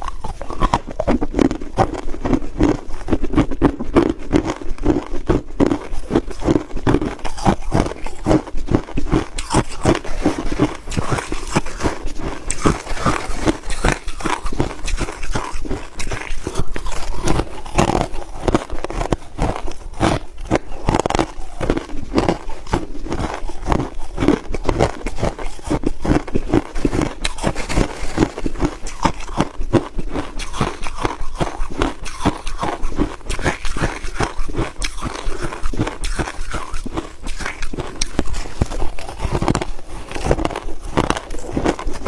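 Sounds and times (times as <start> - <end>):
chewing crushed ice: 0.0 - 42.0.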